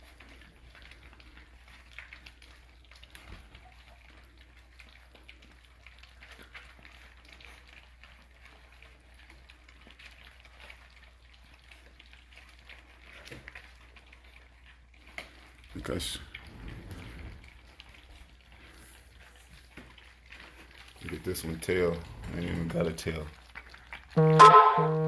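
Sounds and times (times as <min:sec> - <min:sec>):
puppies eating wet food: 0:00.0 - 0:25.0.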